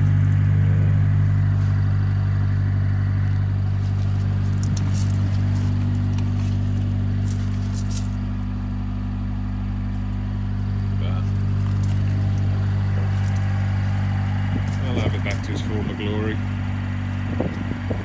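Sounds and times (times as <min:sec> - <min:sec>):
car engine idling: 0:00.0 - 0:18.0
faint engine ticks: 0:00.0 - 0:18.0.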